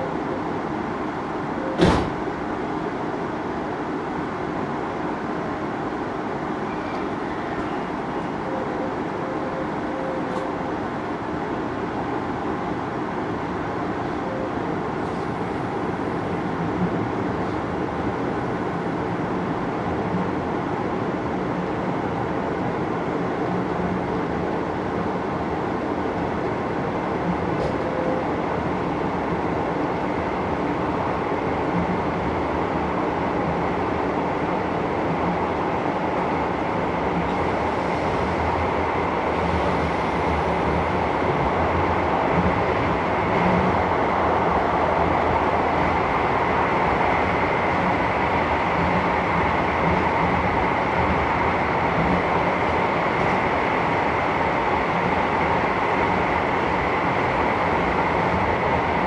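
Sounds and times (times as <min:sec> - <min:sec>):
train rumble and rail noise: 0:00.0 - 0:59.0.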